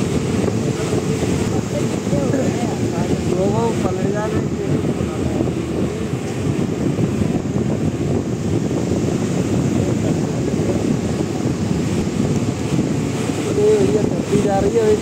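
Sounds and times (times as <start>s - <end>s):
moving vehicle rumble: 0.0s - 15.0s
wind buffeting microphone: 0.0s - 15.0s.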